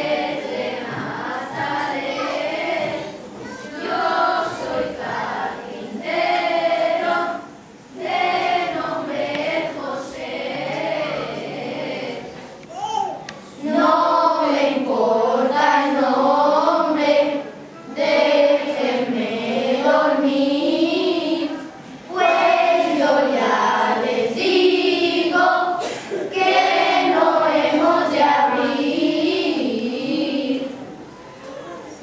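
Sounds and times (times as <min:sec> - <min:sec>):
children's choir singing: 0:00.0 - 0:32.0.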